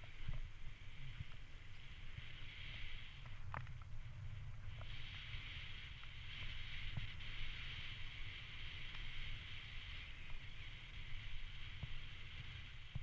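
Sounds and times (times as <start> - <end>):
bicycle tyre hiss on wet path: 0.0 - 13.0.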